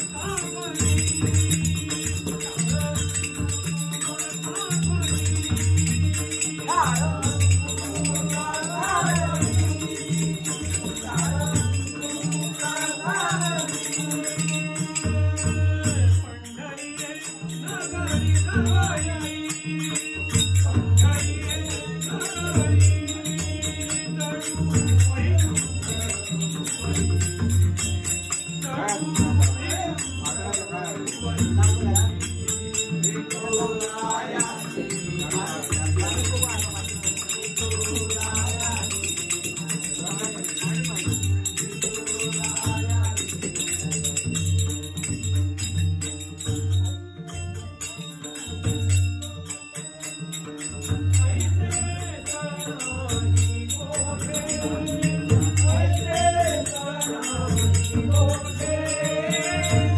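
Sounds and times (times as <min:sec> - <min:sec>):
devotional singing: 0:00.0 - 0:45.8, 0:47.2 - 0:59.9
small hand cymbals jingling: 0:00.0 - 0:59.9.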